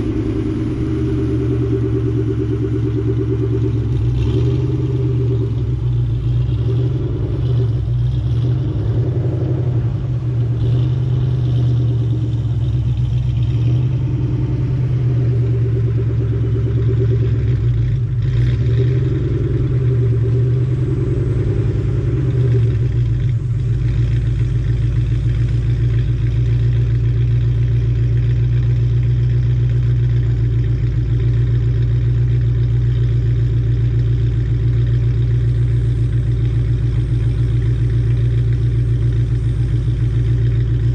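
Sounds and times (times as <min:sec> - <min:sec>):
car engine exhaust drone: 0:00.0 - 0:40.9.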